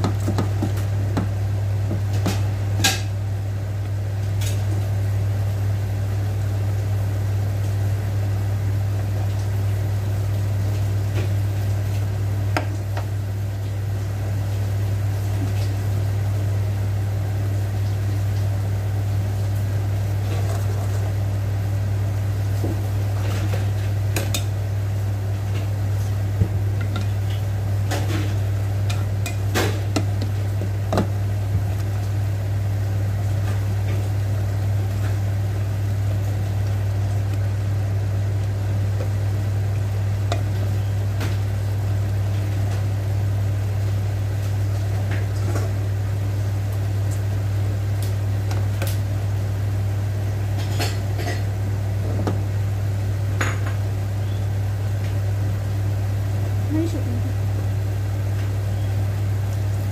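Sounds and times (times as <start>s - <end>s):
steady low hum: 0.0s - 59.9s
water boiling in metal pot: 0.0s - 59.9s.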